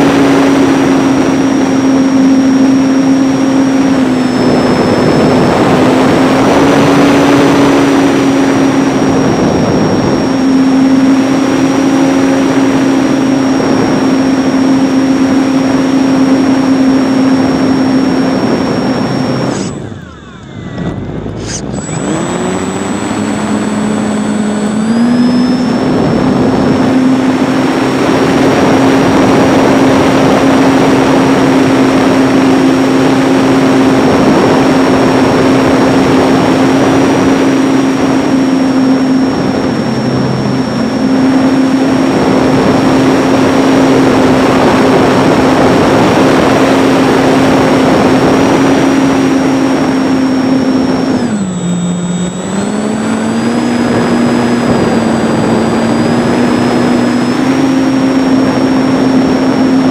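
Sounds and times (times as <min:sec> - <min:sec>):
electric motor propeller whine: 0:00.0 - 0:59.9
wind rush: 0:00.0 - 0:59.9.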